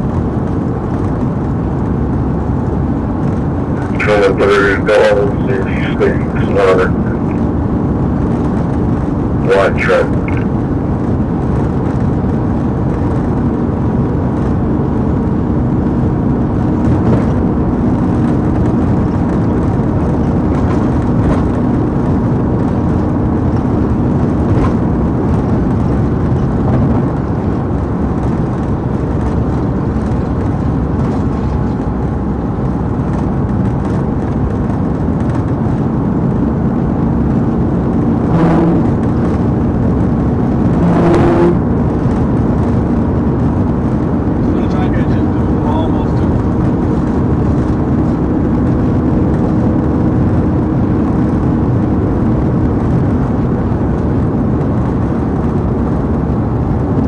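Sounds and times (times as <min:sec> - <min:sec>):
car engine and road noise: 0:00.0 - 0:57.0
low hum: 0:00.0 - 0:57.0.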